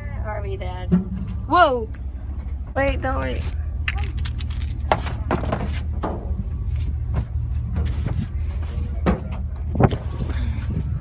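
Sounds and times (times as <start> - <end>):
pickup truck rumble: 0.0 - 11.0.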